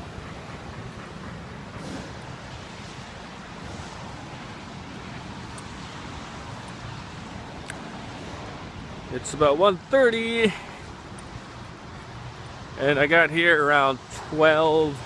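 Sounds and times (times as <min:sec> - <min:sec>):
low traffic hiss: 0:00.0 - 0:15.0.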